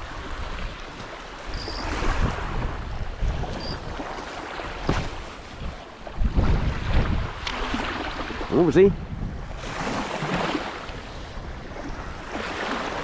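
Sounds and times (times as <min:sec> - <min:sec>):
small waves washing on shore: 0:00.0 - 0:13.0
wind buffeting microphone: 0:00.0 - 0:13.0.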